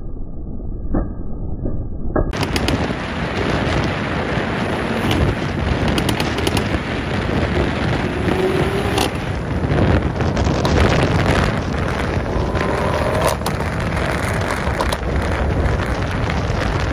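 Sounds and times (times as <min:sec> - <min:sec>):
wind noise rumble: 0:00.0 - 0:16.9
exhaust pops and crackles: 0:02.3 - 0:16.9
car engine revving: 0:02.4 - 0:16.3.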